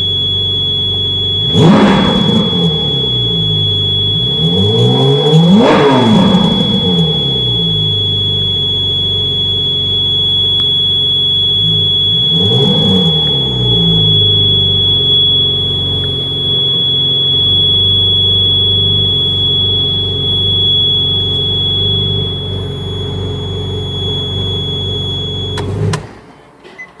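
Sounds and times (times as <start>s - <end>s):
car engine idling and revving: 0.0s - 26.6s.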